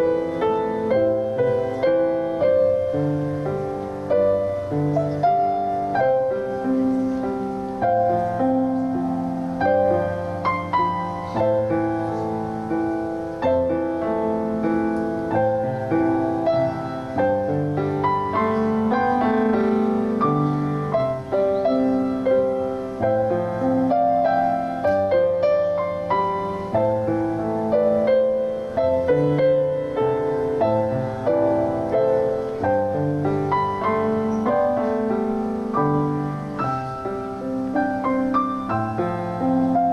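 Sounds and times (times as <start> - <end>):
slow gentle piano music: 0.0 - 39.9.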